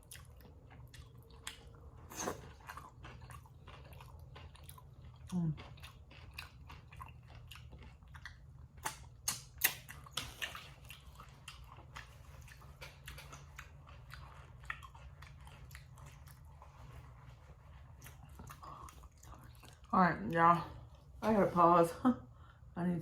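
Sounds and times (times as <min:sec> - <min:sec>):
person chewing with wet smacks: 0:00.0 - 0:21.2
steady low hum: 0:00.0 - 0:23.0.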